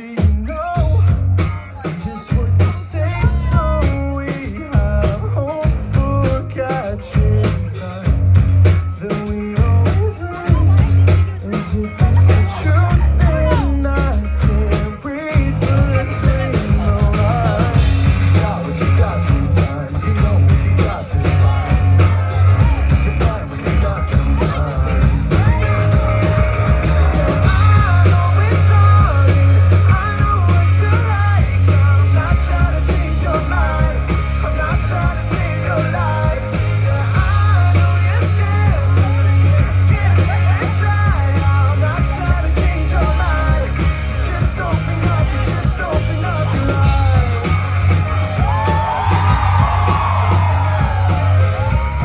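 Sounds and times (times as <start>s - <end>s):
live rock band playing: 0.0s - 52.0s
person singing: 0.0s - 52.0s.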